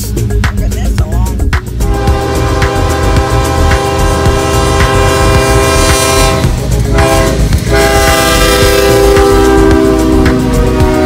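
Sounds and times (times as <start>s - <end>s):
locomotive engine rumbling: 0.0s - 11.0s
locomotive air horn chord: 1.8s - 11.0s.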